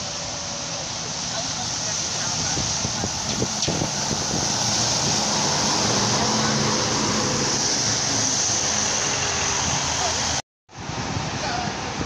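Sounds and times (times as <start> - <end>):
tyres rushing on wet road: 0.0 - 12.0
wind: 0.0 - 12.0.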